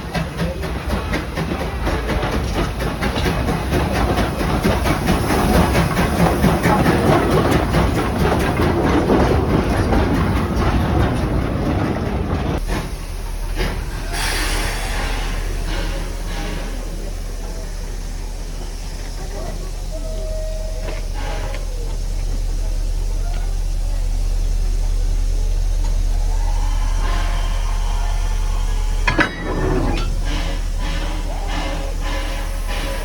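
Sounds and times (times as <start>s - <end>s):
train wheels clattering: 0.0s - 33.0s.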